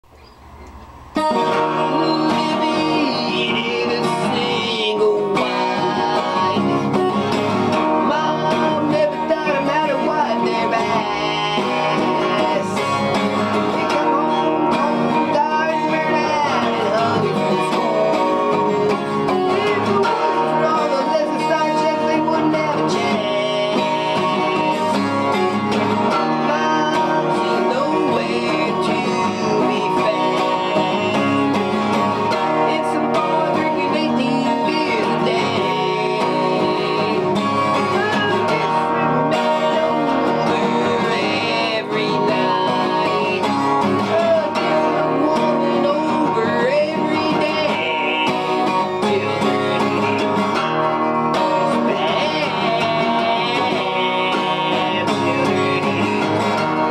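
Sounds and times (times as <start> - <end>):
country song with guitar: 0.0 - 56.9
person singing: 1.1 - 56.9.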